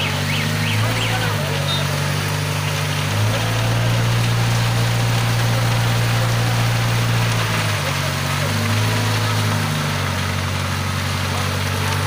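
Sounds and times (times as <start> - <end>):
diesel engine running: 0.0 - 12.0
wet concrete sliding down chute: 0.0 - 12.0.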